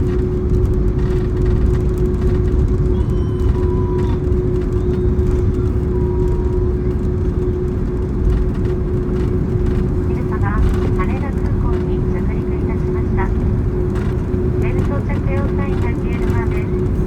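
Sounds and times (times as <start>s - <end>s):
airplane engines and airflow rumble: 0.0s - 17.0s
steady hum: 0.1s - 17.0s.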